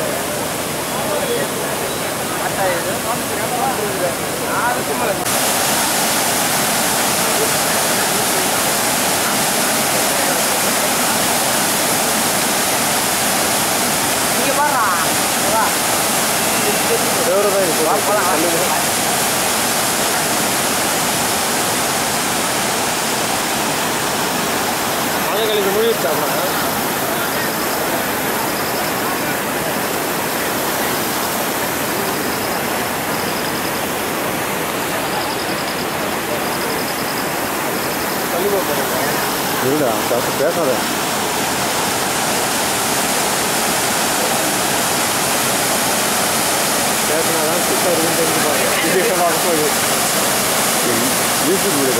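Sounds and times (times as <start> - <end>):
floodwater rushing: 0.0 - 51.9.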